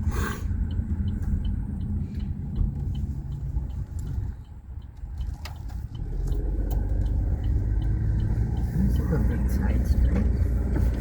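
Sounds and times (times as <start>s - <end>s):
car engine and road rumble: 0.0s - 11.0s
faint regular ticking: 0.5s - 11.0s.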